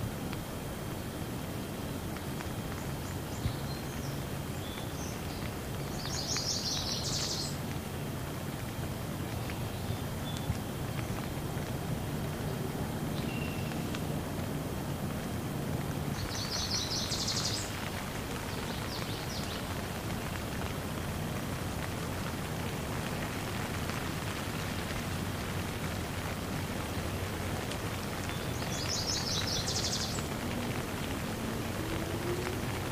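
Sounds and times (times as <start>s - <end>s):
heavy rain on leaves: 0.0s - 32.9s.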